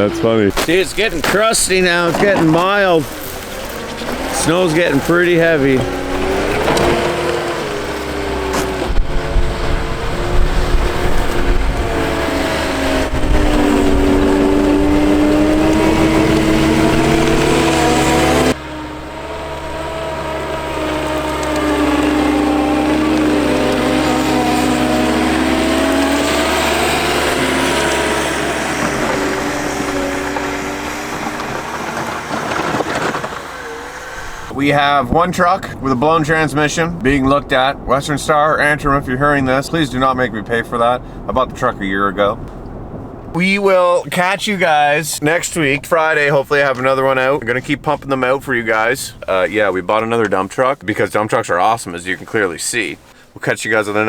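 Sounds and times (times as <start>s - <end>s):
heavy equipment engine under load: 0.0s - 54.0s.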